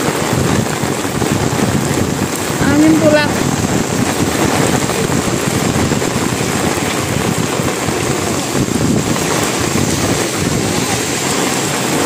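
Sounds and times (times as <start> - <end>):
heavy rain on pavement: 0.0 - 12.0
wind gusting: 0.0 - 12.0.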